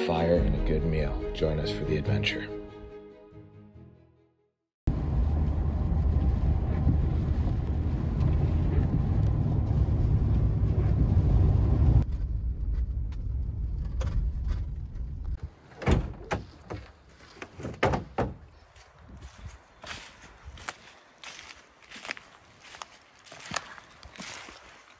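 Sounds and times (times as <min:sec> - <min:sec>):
vehicle engine rumble: 0:04.9 - 0:24.9.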